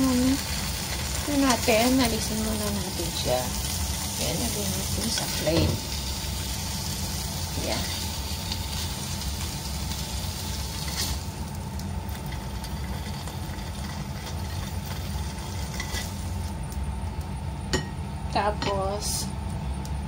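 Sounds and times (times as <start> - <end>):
oil sizzling in a wok: 0.0 - 19.3.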